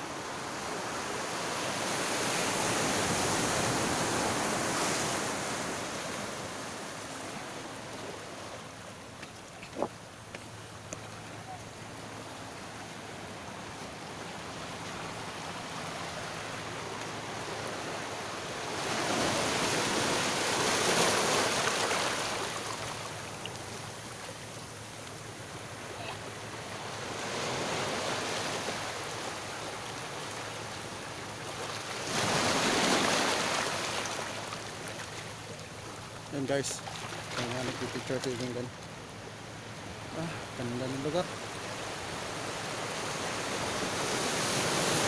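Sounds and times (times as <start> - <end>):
waves washing over stony shore: 0.1 - 8.7, 13.4 - 24.2, 25.4 - 38.6, 41.3 - 45.0.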